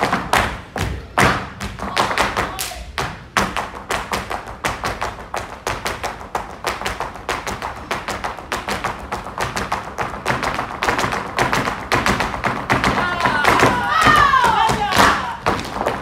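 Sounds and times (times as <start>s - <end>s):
shoes tapping on wooden stage: 0.0s - 16.0s.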